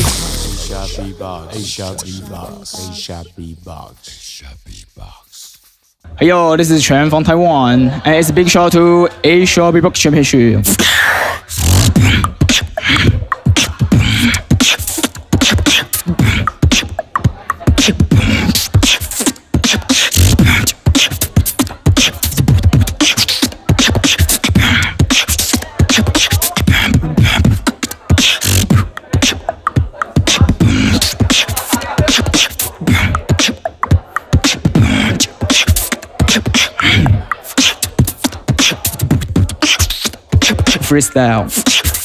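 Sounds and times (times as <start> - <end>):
person beatboxing: 0.0 - 6.0, 10.2 - 42.0.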